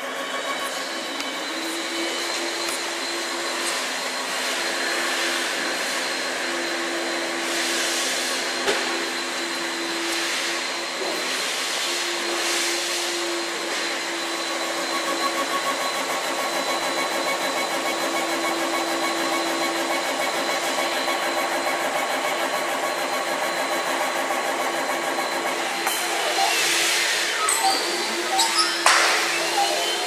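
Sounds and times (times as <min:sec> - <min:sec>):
laser engraver whirring: 0:00.0 - 0:30.0.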